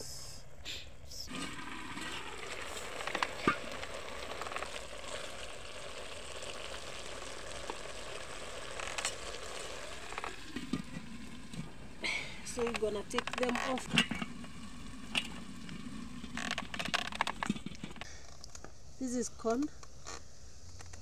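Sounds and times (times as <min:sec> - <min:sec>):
pot simmering hiss: 0:00.0 - 0:21.0.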